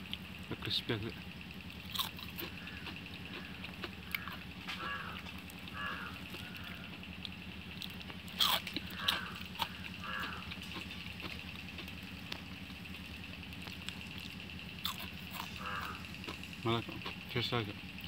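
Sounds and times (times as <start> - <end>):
crunching crispy fritters: 0.0 - 17.7.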